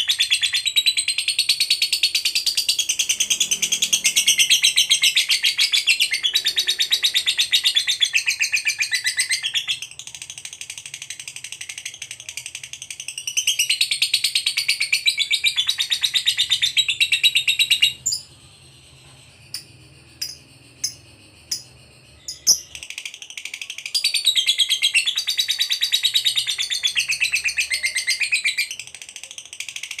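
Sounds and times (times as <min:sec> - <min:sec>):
lovebird chattering trill: 0:00.0 - 0:18.4, 0:19.4 - 0:30.0.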